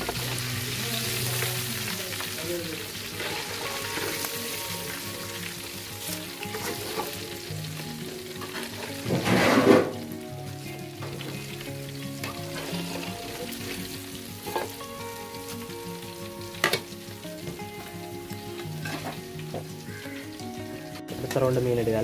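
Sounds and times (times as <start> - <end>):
fish deep-frying in oil: 0.0 - 22.0.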